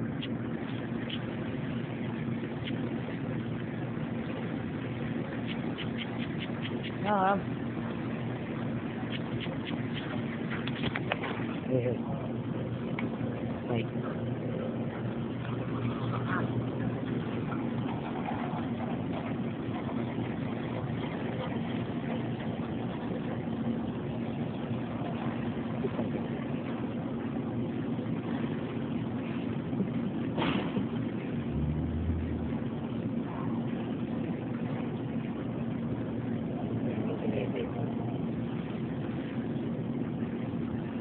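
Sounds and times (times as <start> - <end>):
steady machine hum: 0.0 - 41.0.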